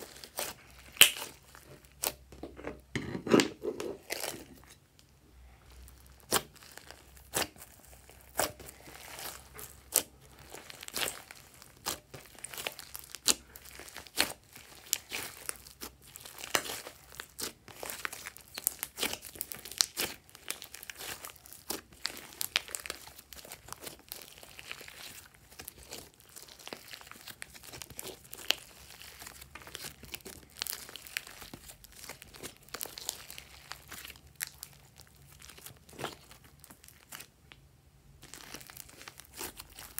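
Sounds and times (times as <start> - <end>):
slime crackling and popping: 0.0 - 2.3, 5.7 - 37.6, 38.2 - 39.9.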